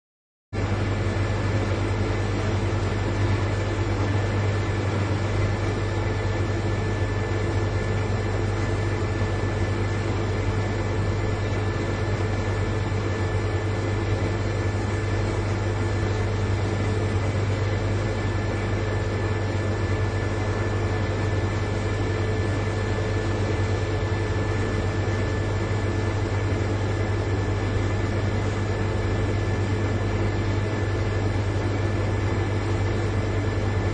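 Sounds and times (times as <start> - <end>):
refrigerator compressor humming: 0.6 - 33.9.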